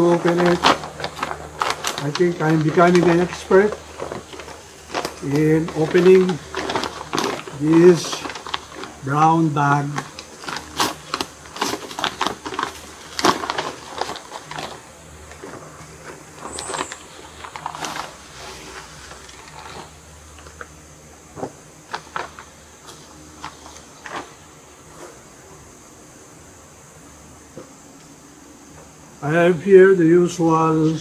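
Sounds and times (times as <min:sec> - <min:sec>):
paper bag crinkling: 0:00.0 - 0:25.2.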